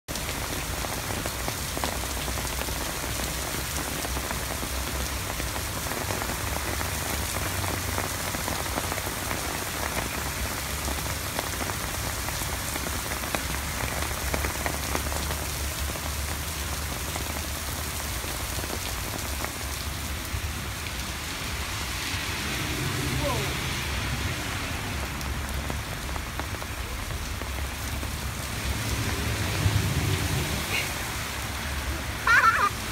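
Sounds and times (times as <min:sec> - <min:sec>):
heavy rain on pavement: 0:00.1 - 0:32.9.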